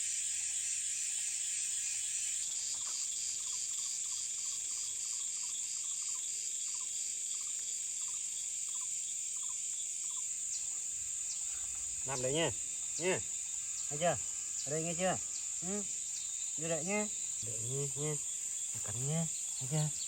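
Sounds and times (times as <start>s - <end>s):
insect short chirps: 0.0s - 20.0s
insects buzzing shrilly: 0.0s - 20.0s.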